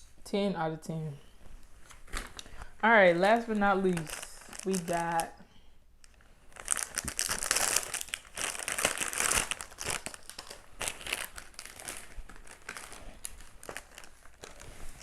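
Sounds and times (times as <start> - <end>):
plastic wrapper crinkling: 1.8 - 5.4, 6.0 - 15.0.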